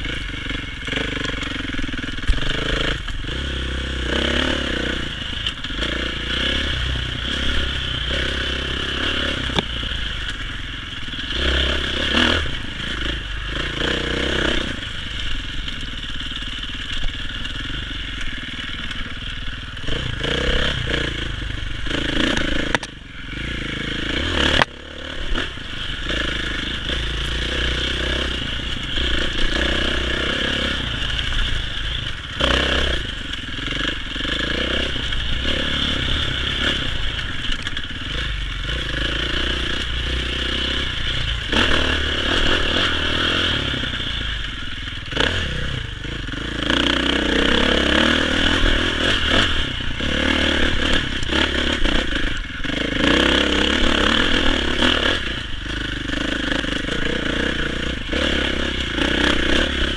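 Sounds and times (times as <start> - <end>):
dirt bike engine: 0.0 - 59.9.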